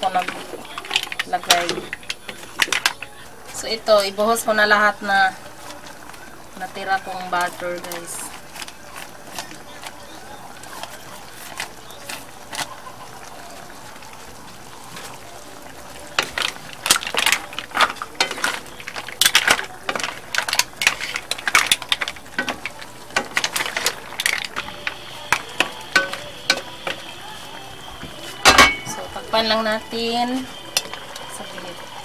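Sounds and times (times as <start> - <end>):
mussel shells clattering in a wok: 0.0 - 13.0, 15.0 - 32.0.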